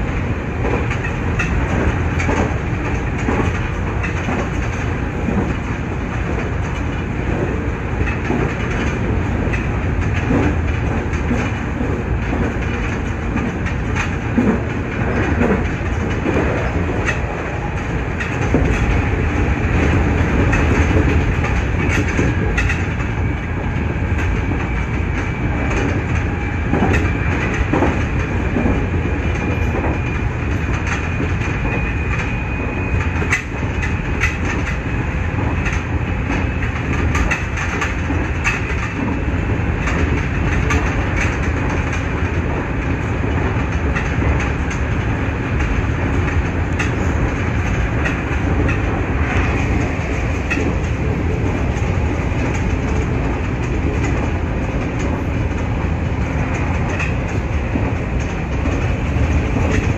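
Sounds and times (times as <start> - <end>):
train rumble: 0.0 - 59.9
wheels clicking over rail joints: 0.0 - 59.9.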